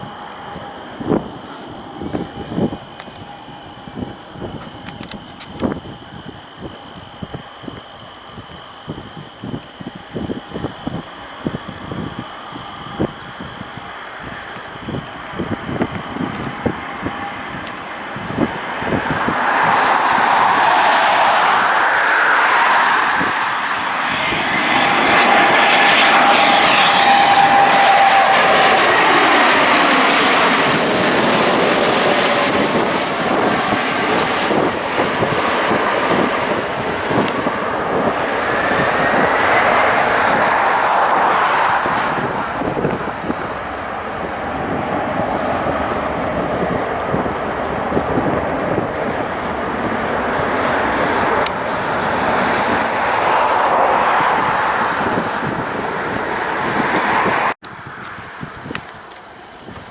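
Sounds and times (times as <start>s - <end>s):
jet engines flying past: 0.0s - 59.9s.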